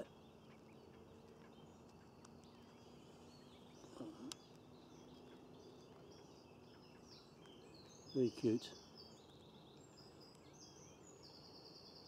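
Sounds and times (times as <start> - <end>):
distant birds chirping: 0.0 - 12.0.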